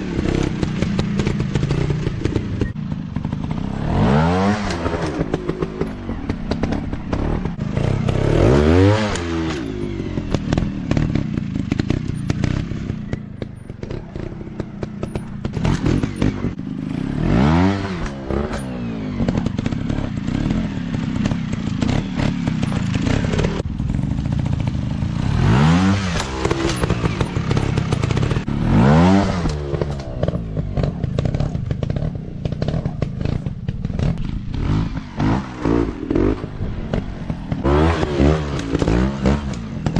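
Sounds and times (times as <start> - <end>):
dirt bike engine revving: 0.0 - 39.9
bike clattering over rough ground: 0.2 - 39.9.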